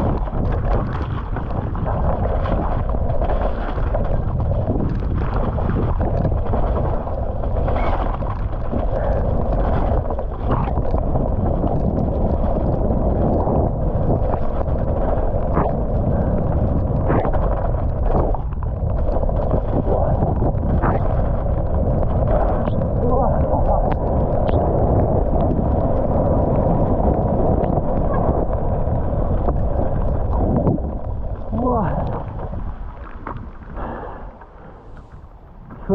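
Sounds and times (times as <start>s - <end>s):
bike tyres rolling in mud: 0.0s - 35.9s
wind rushing: 0.0s - 35.9s.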